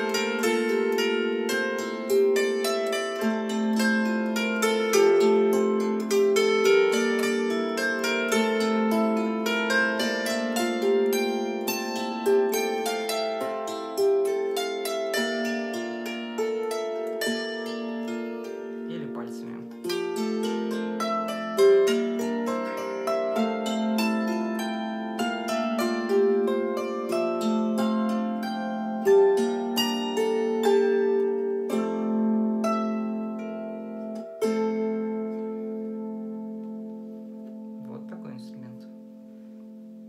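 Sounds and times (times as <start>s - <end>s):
plucked psaltery notes: 0.0s - 40.0s.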